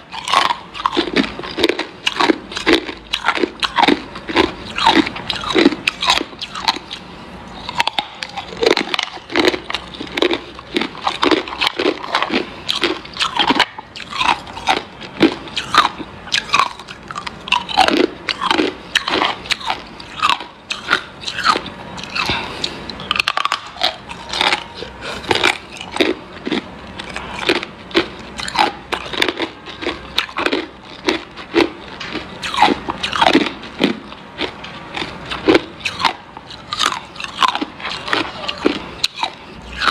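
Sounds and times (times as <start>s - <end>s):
ice crunching between teeth: 0.0s - 7.0s, 7.6s - 39.9s.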